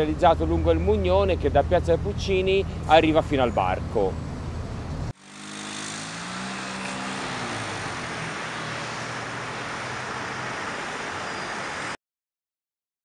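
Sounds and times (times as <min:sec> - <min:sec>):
city traffic engine and tyre noise: 0:00.0 - 0:12.0.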